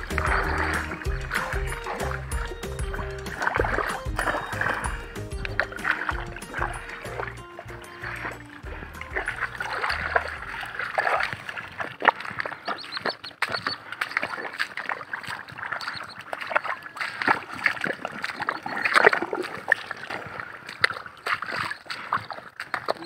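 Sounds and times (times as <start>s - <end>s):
footsteps squelching through mud: 0.0s - 23.0s.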